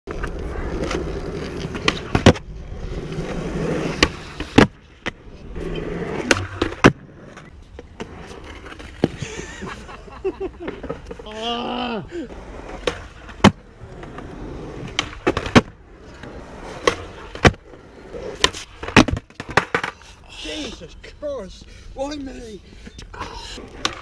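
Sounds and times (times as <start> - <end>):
skateboards clacking on concrete: 0.1 - 9.8, 10.4 - 11.5, 12.3 - 20.9, 23.1 - 24.0
skateboard wheels rolling on concrete: 0.1 - 24.0.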